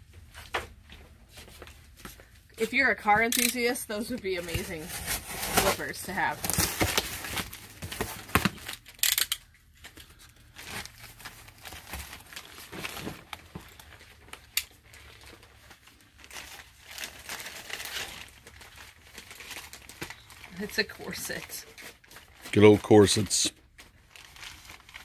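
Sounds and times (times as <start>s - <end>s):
packaging crinkling and tearing: 4.5s - 25.0s.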